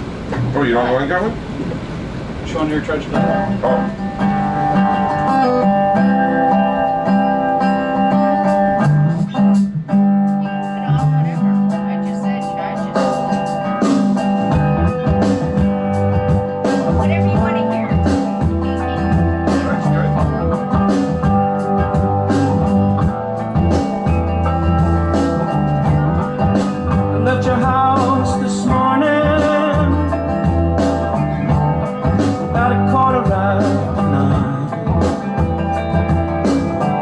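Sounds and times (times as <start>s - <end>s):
song with guitar bass and drums: 0.0s - 37.0s.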